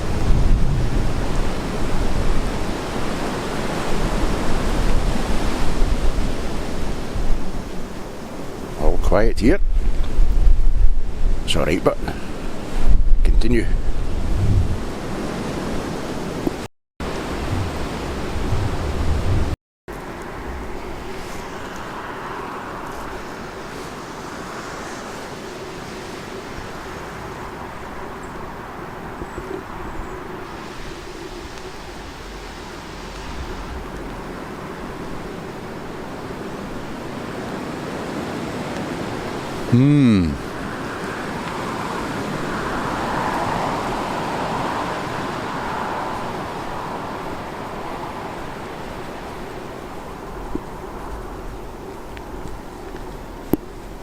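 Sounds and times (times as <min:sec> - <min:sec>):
wind blowing over microphone: 0:00.0 - 0:54.0.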